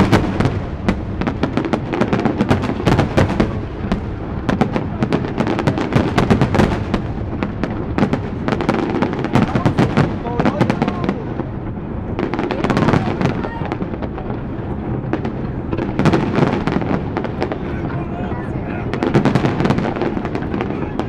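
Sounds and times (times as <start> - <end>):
firework shells bursting: 0.0 - 17.6.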